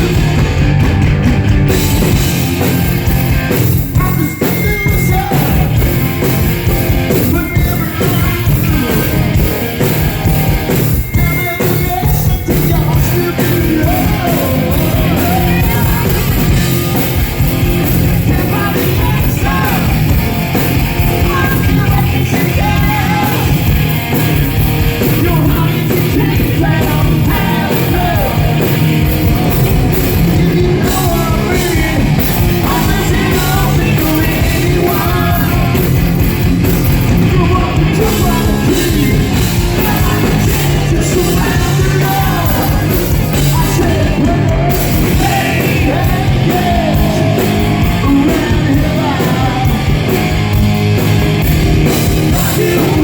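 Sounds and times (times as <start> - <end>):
hard rock band playing: 0.0 - 53.0
lead vocals: 1.7 - 53.0.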